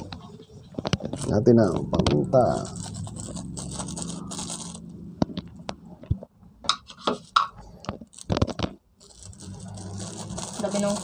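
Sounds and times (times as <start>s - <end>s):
plastic bag rustling and crinkling: 0.7s - 5.6s, 7.0s - 11.0s.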